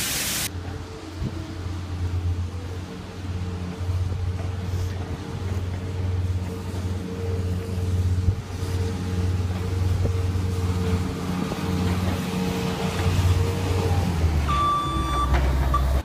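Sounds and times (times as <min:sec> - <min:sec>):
tractor engine running: 0:00.5 - 0:16.0.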